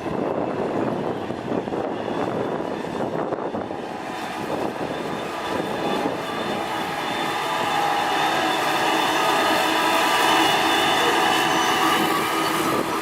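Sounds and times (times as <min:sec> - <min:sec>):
diesel engine of heavy machine: 0:00.0 - 0:13.0
steady machine whine: 0:00.0 - 0:13.0.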